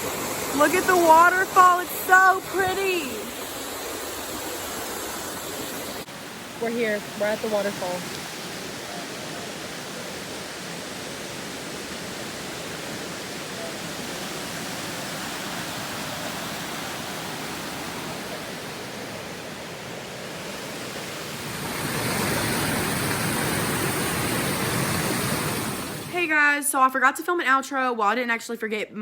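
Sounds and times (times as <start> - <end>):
waterfall rushing: 0.0 - 26.3.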